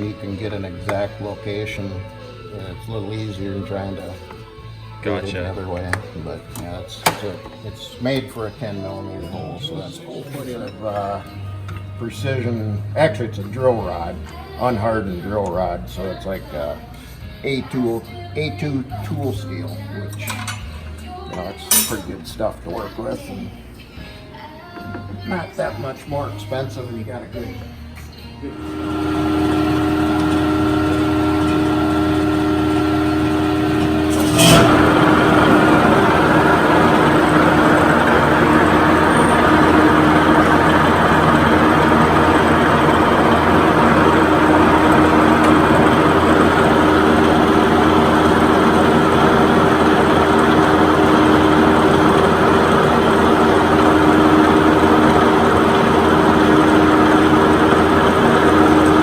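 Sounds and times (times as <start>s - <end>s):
machine motor humming: 0.0s - 16.7s, 27.4s - 59.0s.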